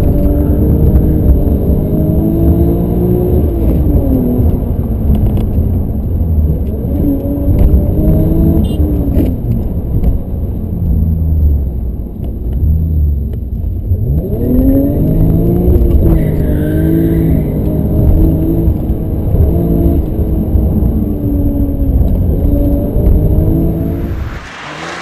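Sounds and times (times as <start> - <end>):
car engine accelerating hard: 0.0 - 11.9, 12.5 - 25.0.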